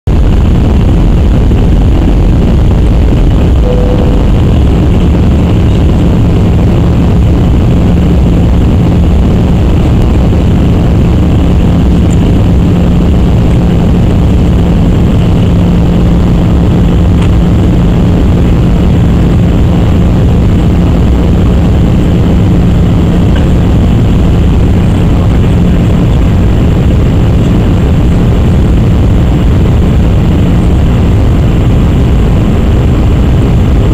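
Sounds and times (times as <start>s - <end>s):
jet engine cabin roar: 0.1s - 33.9s
low hum: 0.1s - 33.9s.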